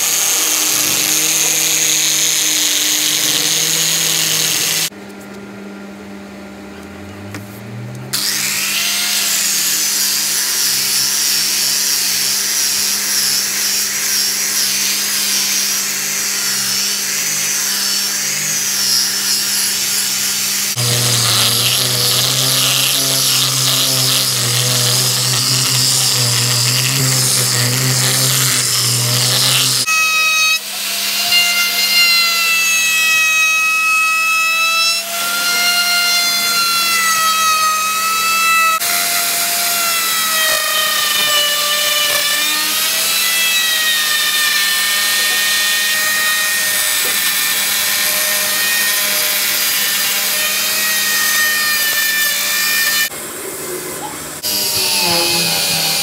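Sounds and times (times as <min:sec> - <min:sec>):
angle grinder sanding wood: 0:00.0 - 0:04.9, 0:08.2 - 0:34.0, 0:34.9 - 0:53.1, 0:54.4 - 0:56.0
router cutting wood: 0:00.0 - 0:04.9, 0:08.1 - 0:53.2, 0:53.9 - 0:56.0.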